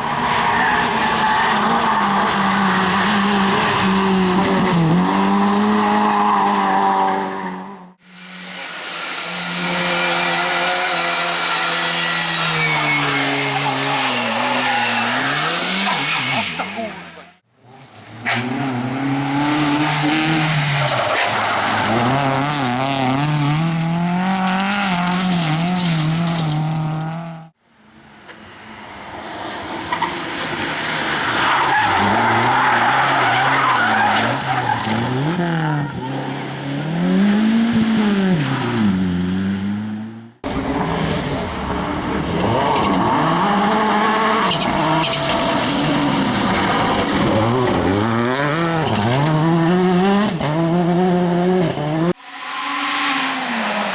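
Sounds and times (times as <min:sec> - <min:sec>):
race car engines revving: 0:00.0 - 0:27.6, 0:28.4 - 0:53.9.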